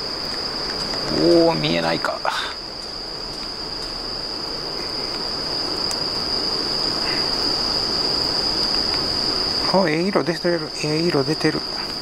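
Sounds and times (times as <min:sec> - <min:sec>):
crickets trilling: 0:00.0 - 0:12.0
low hiss: 0:00.0 - 0:12.0
wood fire crackling: 0:00.0 - 0:12.0.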